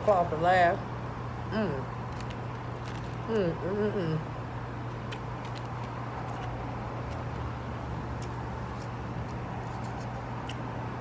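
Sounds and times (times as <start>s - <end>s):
background traffic noise: 0.0s - 11.0s
steady low hum: 0.0s - 11.0s.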